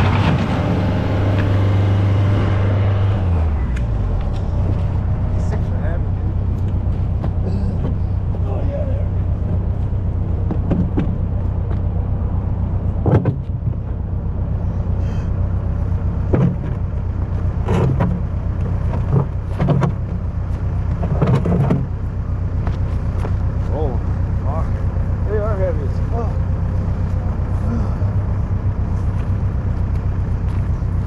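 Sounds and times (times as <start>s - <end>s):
engine running steadily: 0.0s - 31.0s.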